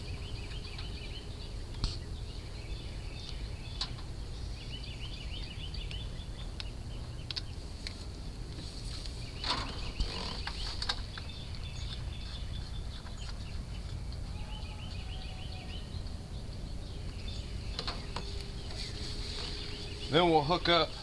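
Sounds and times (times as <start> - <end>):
birds chirping: 0.0 - 21.0
steady low rumble: 0.0 - 21.0.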